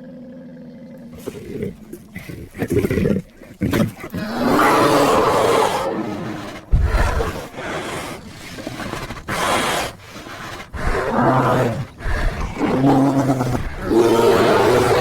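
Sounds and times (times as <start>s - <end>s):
bear growling and roaring: 0.0s - 15.0s.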